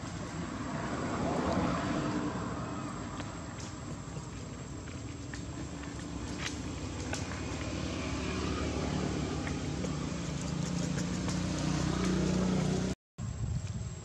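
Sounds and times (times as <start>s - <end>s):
motor engine droning: 0.0s - 13.0s.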